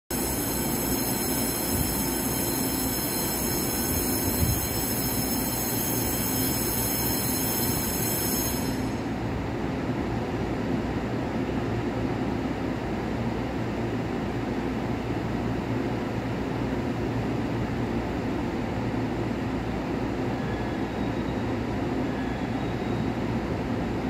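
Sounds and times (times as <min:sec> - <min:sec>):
train high-pitched whine: 0:00.1 - 0:24.0
train low rumble: 0:00.1 - 0:24.0.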